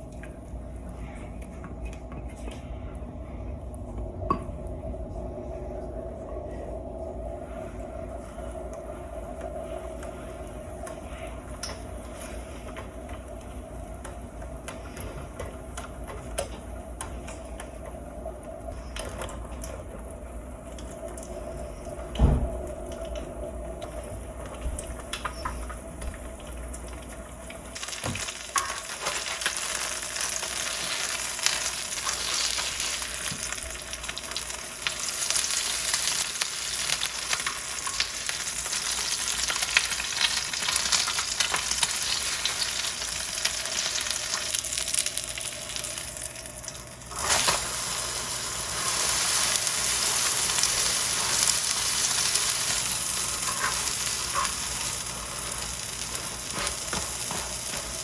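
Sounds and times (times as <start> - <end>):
food sizzling in a pan: 7.4 - 58.0.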